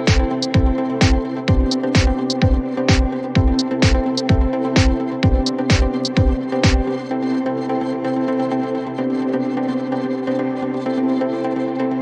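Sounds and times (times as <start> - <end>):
calm ambient music: 0.0 - 12.0.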